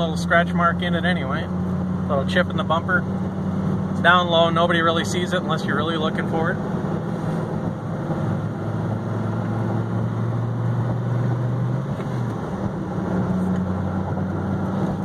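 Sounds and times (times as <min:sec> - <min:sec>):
car engine running: 0:00.0 - 0:15.0
road noise inside car: 0:00.0 - 0:15.0.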